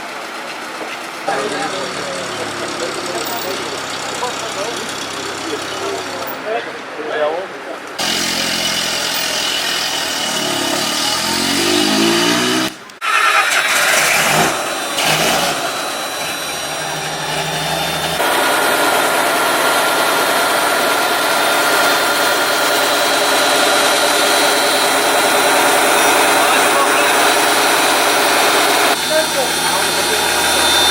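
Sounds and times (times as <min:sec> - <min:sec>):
military vehicle engine running: 0:00.0 - 0:06.5, 0:08.0 - 0:30.9.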